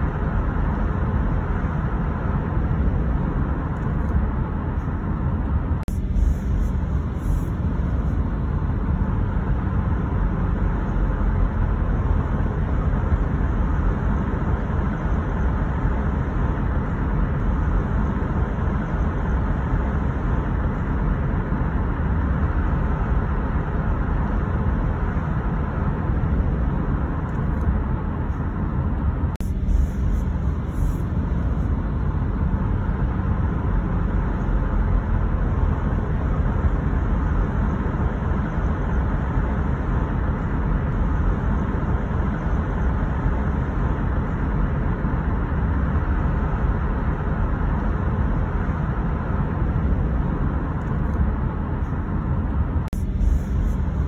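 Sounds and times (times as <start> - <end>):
car tyre and road rumble: 0.0 - 54.0.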